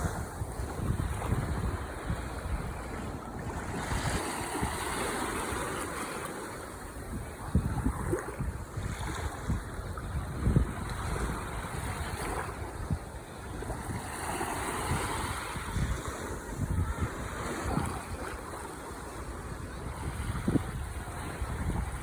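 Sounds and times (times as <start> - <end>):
ocean waves breaking on shore: 0.0 - 22.0
wind buffeting microphone: 0.0 - 22.0.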